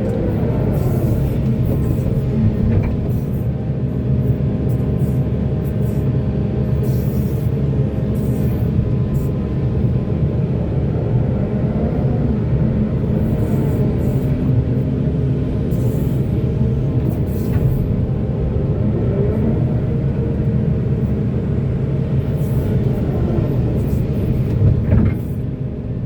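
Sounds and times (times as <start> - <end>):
heavy diesel engine under load: 0.0 - 26.0.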